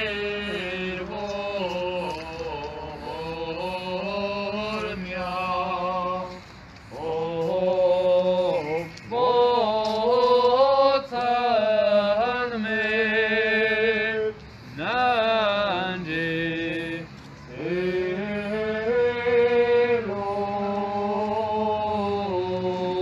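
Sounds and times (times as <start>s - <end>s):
voices chanting a hymn: 0.0s - 23.0s.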